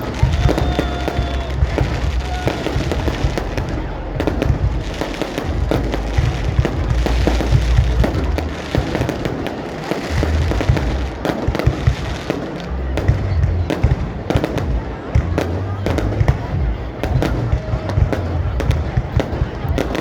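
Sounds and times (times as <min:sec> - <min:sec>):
deep fireworks booms: 0:00.0 - 0:20.0
fireworks bangs and crackles: 0:00.0 - 0:20.0.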